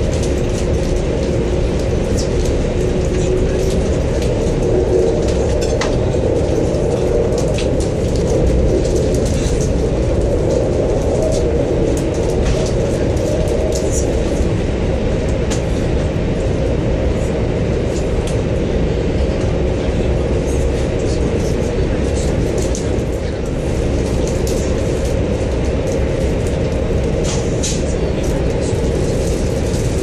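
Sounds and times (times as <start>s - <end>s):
train cabin low rumble: 0.0s - 30.0s.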